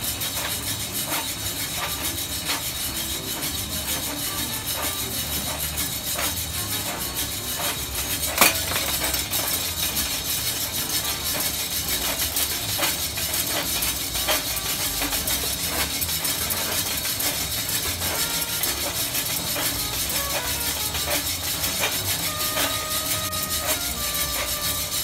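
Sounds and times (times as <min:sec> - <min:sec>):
coffee roaster hissing: 0:00.0 - 0:25.0.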